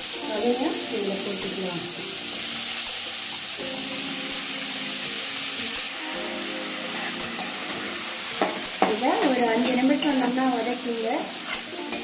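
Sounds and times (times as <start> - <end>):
background music: 0.0 - 12.0
vegetables sizzling in oil: 0.0 - 12.0.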